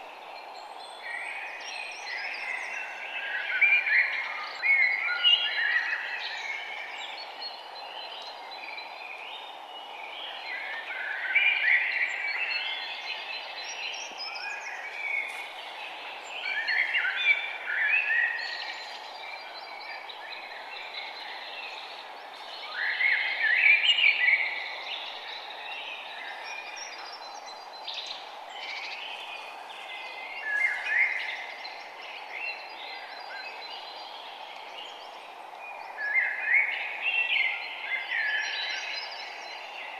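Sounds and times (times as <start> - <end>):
low background hiss: 0.0 - 39.9
songbirds chirping: 0.0 - 39.9.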